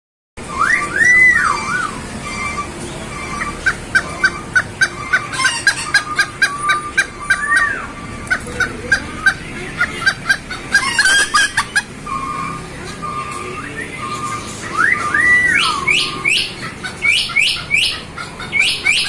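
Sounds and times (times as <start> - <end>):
chickens calling: 0.4 - 19.0.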